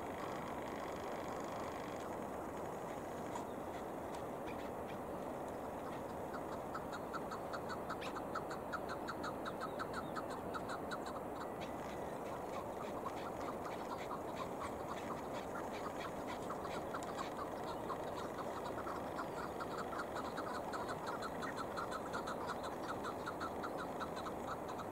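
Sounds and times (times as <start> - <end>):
partridges clucking calls: 0.1 - 24.9.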